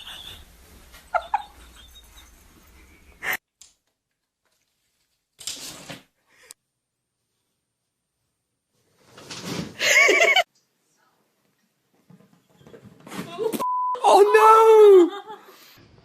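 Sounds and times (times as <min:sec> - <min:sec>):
faint room noise: 0:00.0 - 0:16.0.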